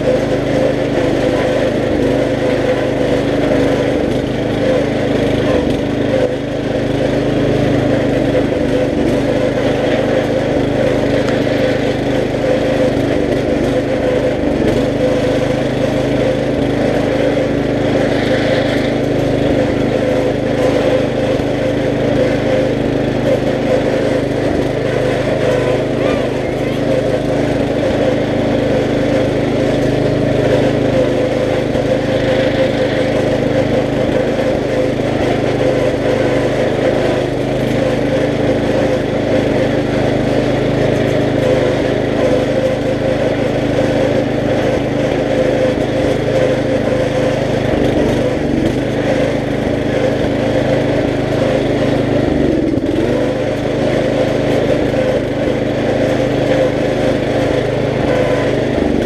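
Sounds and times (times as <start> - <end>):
riding lawn mower engine: 0.0 - 59.0.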